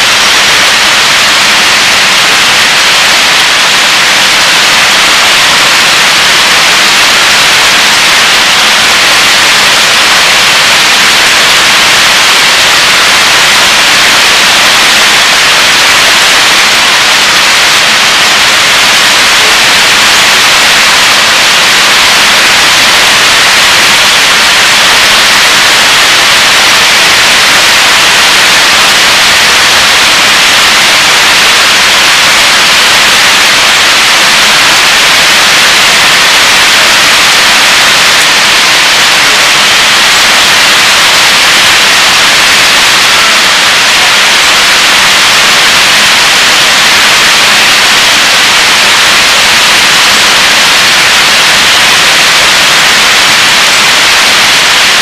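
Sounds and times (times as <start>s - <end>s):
pouring rain: 0.0s - 55.0s.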